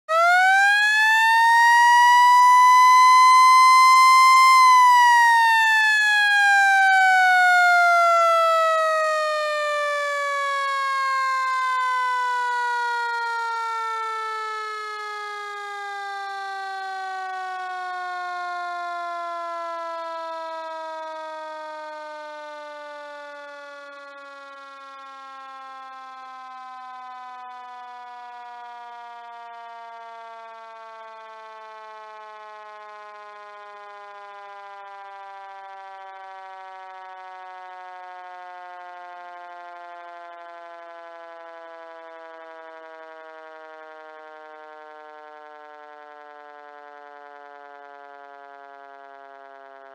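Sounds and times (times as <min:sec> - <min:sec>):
fire truck siren: 0:00.0 - 0:49.9.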